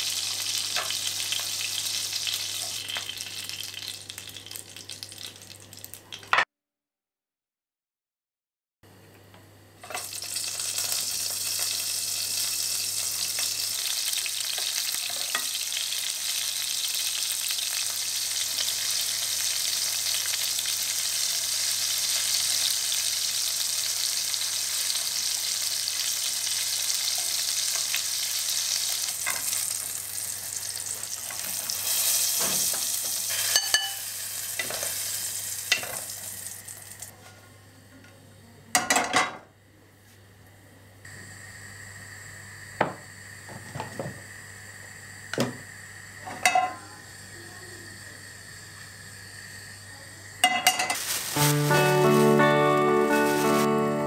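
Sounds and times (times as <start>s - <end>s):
food frying sizzle: 0.0s - 6.4s, 9.8s - 37.1s, 41.1s - 54.0s.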